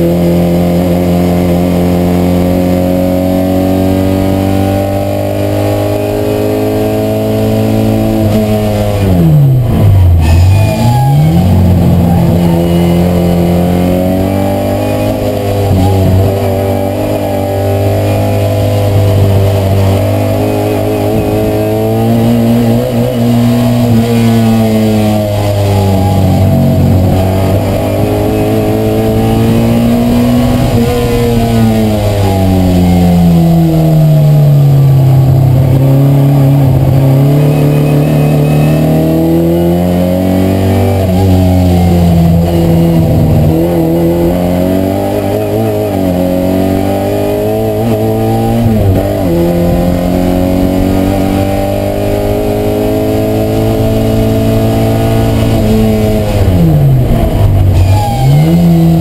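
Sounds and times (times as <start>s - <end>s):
race car engine running hard: 0.0s - 59.0s.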